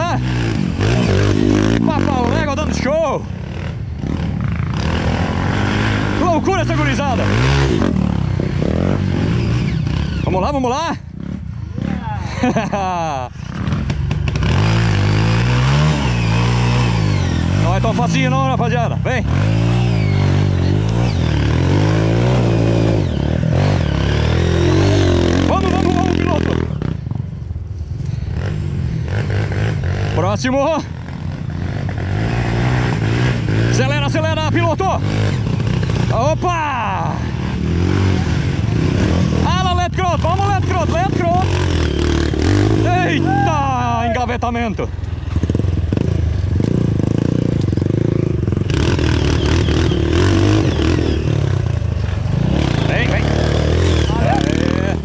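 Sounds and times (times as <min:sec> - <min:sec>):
dirt bike engine revving: 0:00.0 - 0:27.4, 0:28.1 - 0:55.0.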